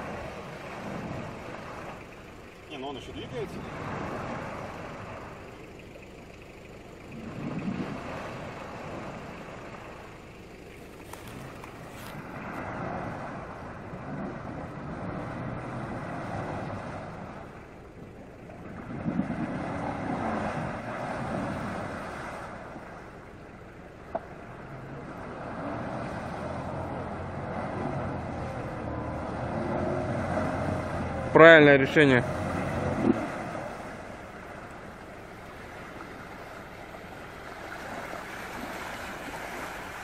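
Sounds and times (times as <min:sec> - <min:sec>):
engine revving: 0:00.0 - 0:17.7, 0:18.5 - 0:23.2, 0:24.1 - 0:40.0
wheels churning through mud: 0:00.0 - 0:40.0.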